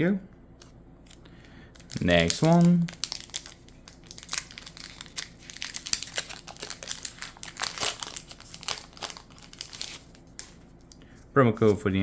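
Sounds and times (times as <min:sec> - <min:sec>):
foil wrapper crinkling: 0:01.1 - 0:11.0.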